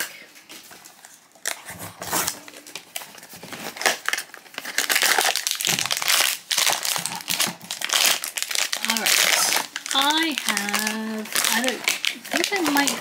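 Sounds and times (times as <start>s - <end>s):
foil bag crinkling: 0.6s - 13.0s.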